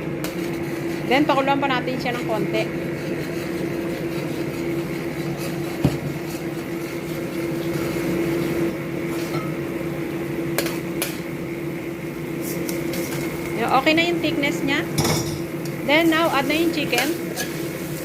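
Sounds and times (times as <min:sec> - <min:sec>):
sauce simmering in a wok: 0:02.6 - 0:18.0.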